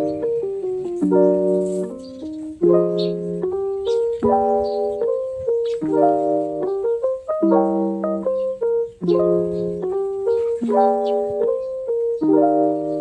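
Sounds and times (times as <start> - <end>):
light keyboard melody: 0.0 - 13.0.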